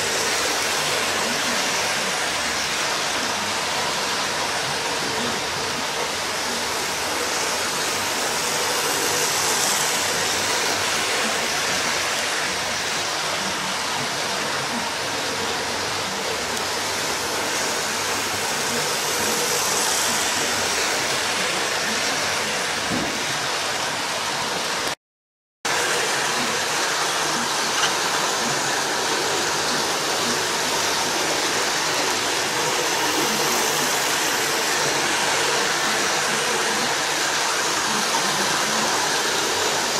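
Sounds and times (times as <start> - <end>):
model train whirring on rails: 0.0 - 25.0, 25.7 - 39.9.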